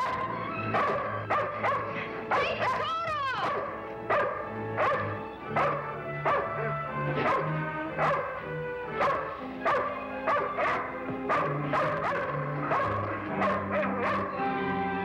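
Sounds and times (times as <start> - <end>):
dog barking: 0.0 - 2.8, 3.4 - 14.4
background music with low notes: 0.0 - 15.0.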